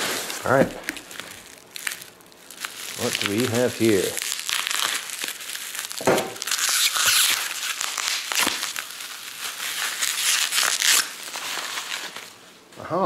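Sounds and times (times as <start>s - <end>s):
bubble wrap crinkling and tearing: 0.0s - 12.7s.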